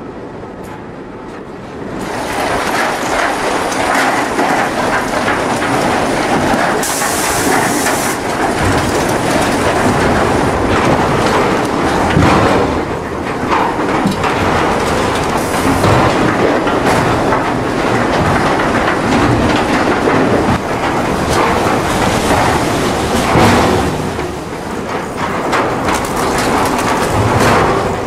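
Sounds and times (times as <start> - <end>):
conveyor machinery running: 0.0 - 28.0
logs clattering on conveyors: 0.6 - 28.0.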